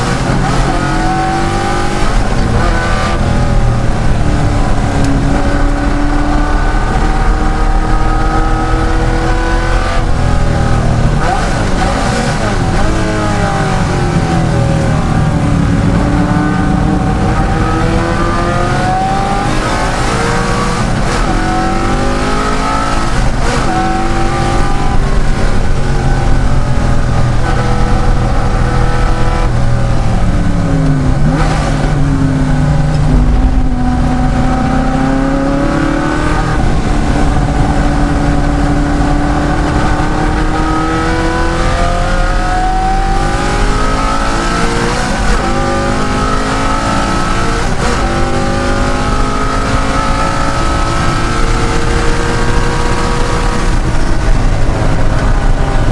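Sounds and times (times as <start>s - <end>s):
car engine revving through gears: 0.0s - 55.9s.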